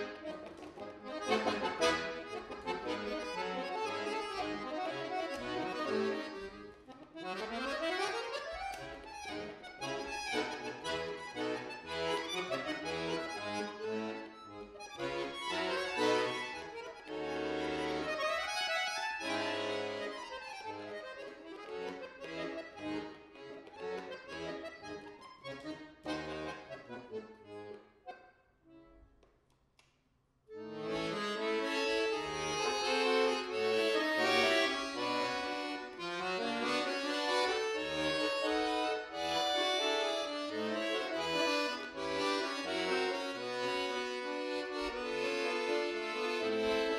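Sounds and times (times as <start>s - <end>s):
button accordion playing: 0.0s - 29.2s, 30.5s - 46.9s.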